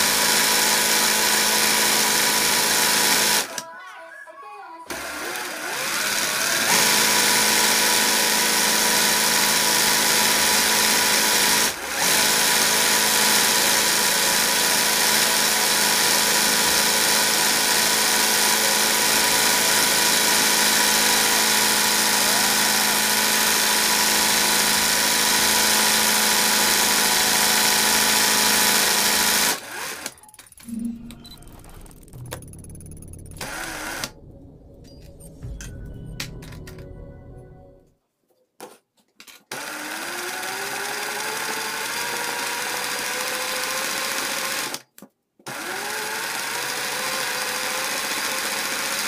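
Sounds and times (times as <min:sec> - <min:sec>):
industrial sewing machine running: 0:00.0 - 0:03.6, 0:04.9 - 0:30.2, 0:31.9 - 0:34.2, 0:39.5 - 0:44.8, 0:45.5 - 0:49.0.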